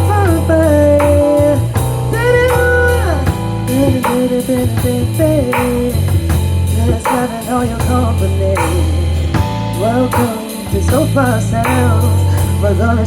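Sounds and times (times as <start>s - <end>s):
bass notes: 0.0s - 13.0s
drum hits: 0.0s - 13.0s
electric guitar melody: 0.0s - 13.0s.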